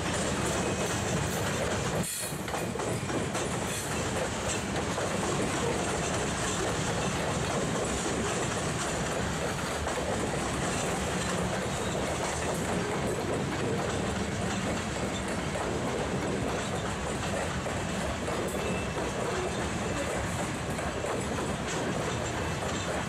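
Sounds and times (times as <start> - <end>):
freight cars wheel-on-rail noise: 0.0 - 23.0.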